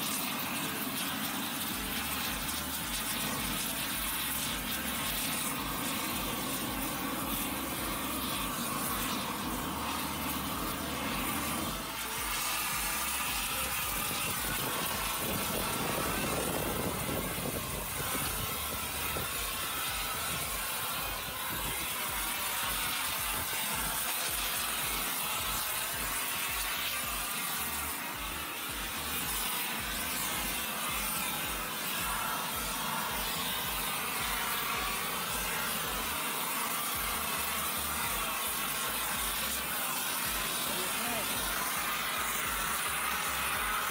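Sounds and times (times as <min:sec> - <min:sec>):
propane torch hissing: 0:00.0 - 0:43.9.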